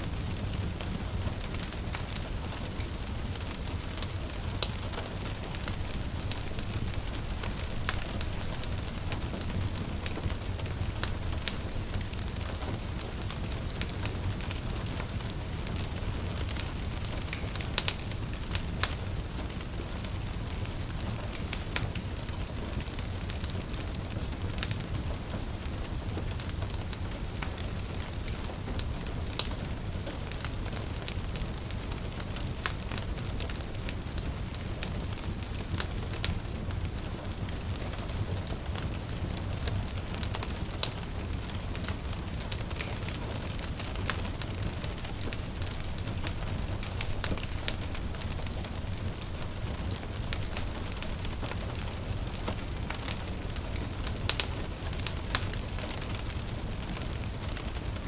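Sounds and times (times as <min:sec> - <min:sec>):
gentle rain hiss: 0:00.0 - 0:58.0
wood fire crackling: 0:00.0 - 0:58.0.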